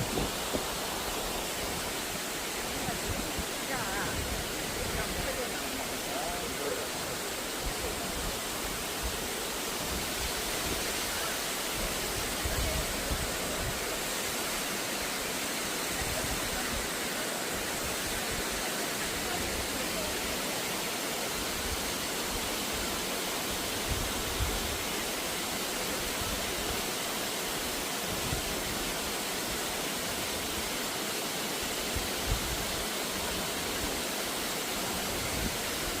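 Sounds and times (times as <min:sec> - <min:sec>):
stream water rushing: 0:00.0 - 0:36.0.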